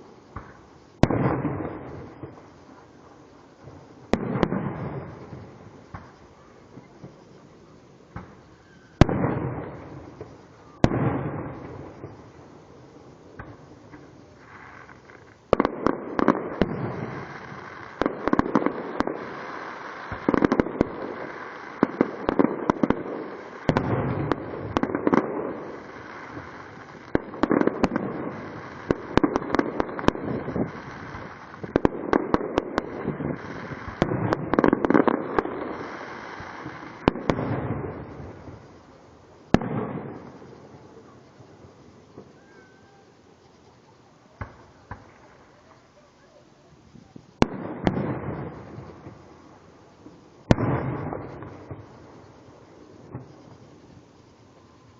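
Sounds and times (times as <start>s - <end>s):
firework booms: 0.0s - 2.6s, 3.6s - 7.3s, 8.1s - 43.2s, 44.3s - 45.9s, 46.9s - 54.9s
barrage of firework bangs and pops: 0.0s - 3.0s, 3.6s - 7.3s, 8.1s - 43.1s, 44.3s - 46.0s, 46.9s - 54.9s.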